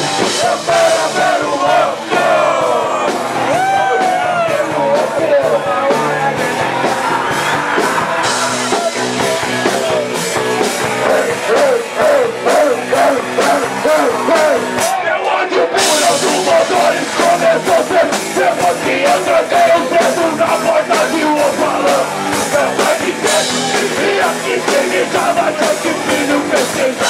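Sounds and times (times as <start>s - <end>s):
punk rock band playing: 0.0s - 27.0s.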